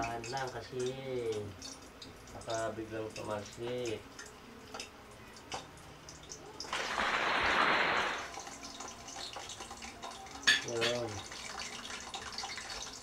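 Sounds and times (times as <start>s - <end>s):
meat sizzling in hot oil: 0.0s - 4.7s, 5.4s - 13.0s.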